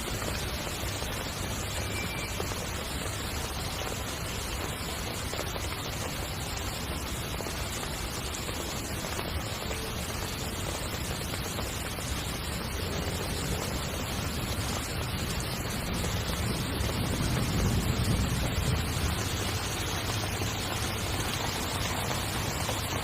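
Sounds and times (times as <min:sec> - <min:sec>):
heavy rain on a tent: 0:00.0 - 0:23.0.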